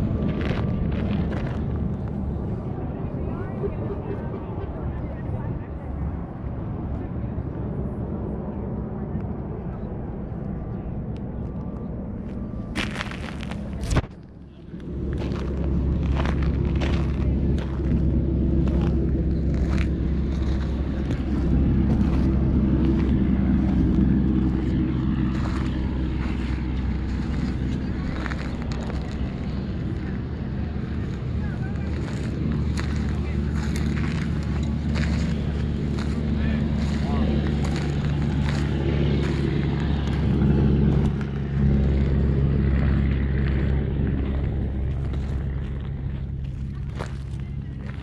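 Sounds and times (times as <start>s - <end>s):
low engine drone: 0.0s - 48.0s.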